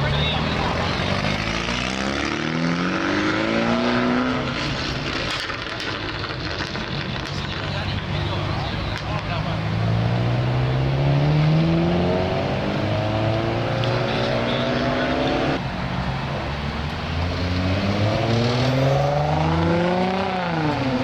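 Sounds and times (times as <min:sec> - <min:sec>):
loud car engines accelerating: 0:00.0 - 0:21.0.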